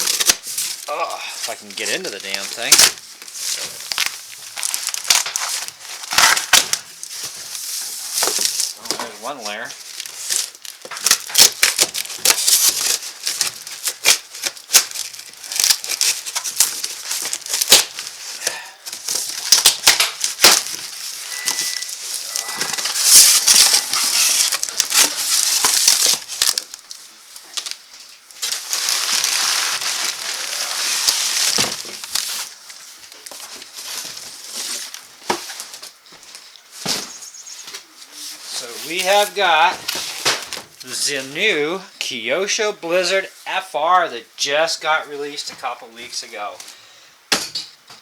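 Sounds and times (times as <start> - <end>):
packaging crinkling and rustling: 0.0 - 41.5.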